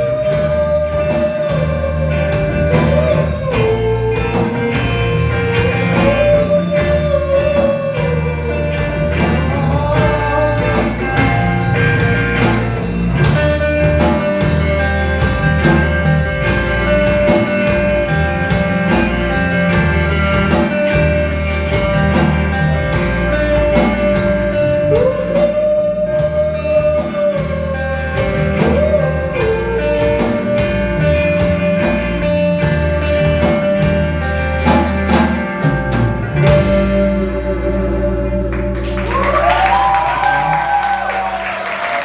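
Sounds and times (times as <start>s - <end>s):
drum kit with cymbals: 0.0s - 38.1s
bass: 0.0s - 42.0s.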